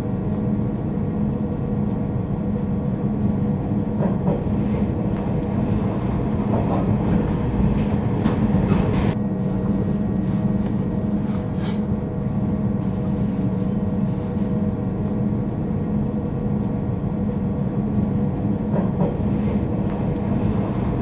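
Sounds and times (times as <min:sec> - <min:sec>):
train hum and rumble: 0:00.0 - 0:21.0.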